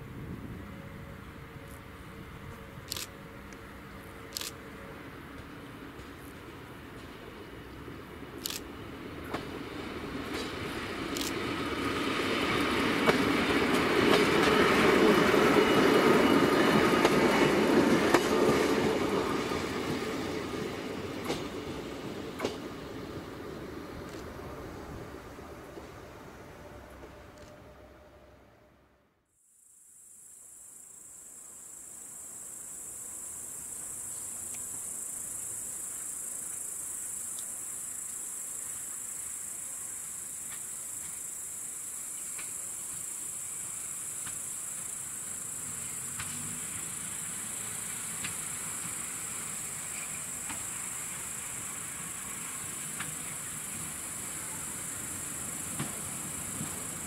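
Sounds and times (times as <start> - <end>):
distant train rumble: 0.0 - 29.0, 32.2 - 57.0
crickets chirring: 6.4 - 26.0, 29.5 - 57.0.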